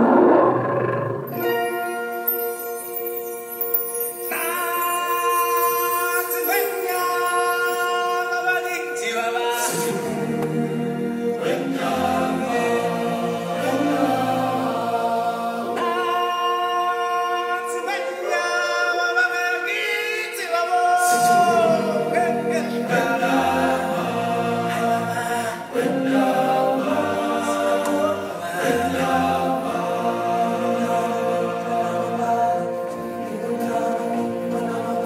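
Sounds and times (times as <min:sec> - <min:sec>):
stage show music: 0:01.2 - 0:35.0.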